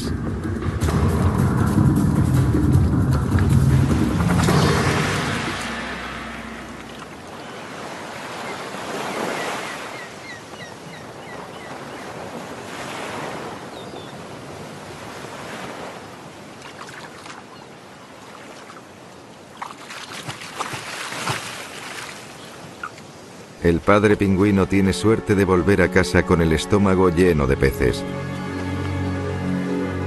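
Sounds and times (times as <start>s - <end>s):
surf washing in: 2.0s - 27.8s.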